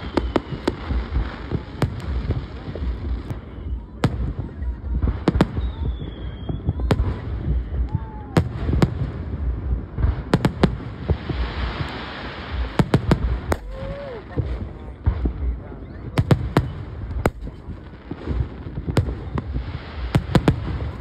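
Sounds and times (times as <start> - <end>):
fireworks bursting bangs: 0.0 - 21.0
fireworks crackling: 0.0 - 21.0
low rumble: 0.0 - 21.0.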